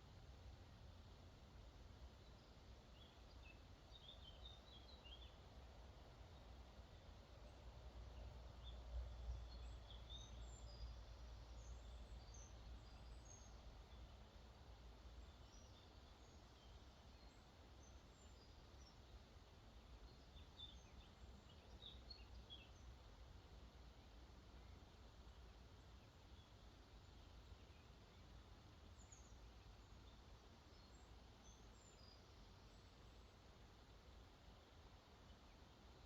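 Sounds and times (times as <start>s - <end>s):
small birds chirping: 2.0s - 36.0s.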